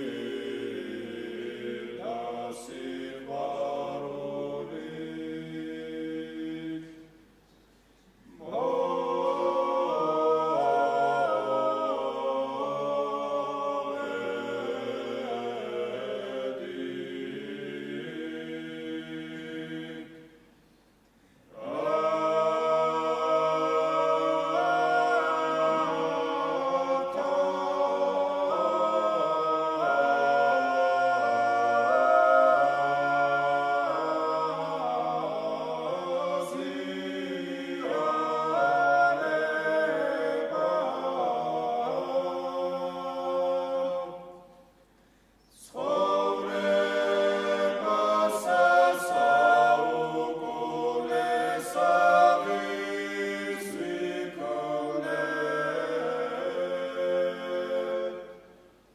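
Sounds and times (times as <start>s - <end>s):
male choir chanting a cappella: 0.0s - 7.2s, 8.2s - 20.4s, 21.5s - 44.6s, 45.5s - 58.7s.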